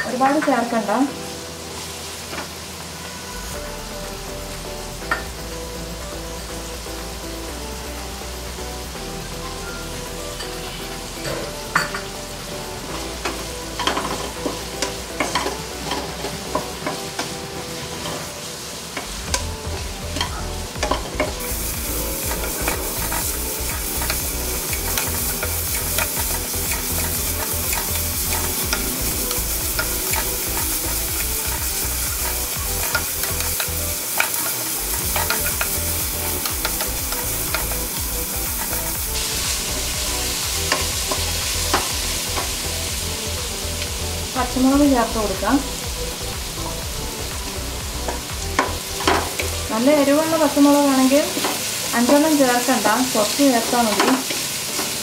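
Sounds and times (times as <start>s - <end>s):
onions sizzling in oil: 0.0s - 55.0s.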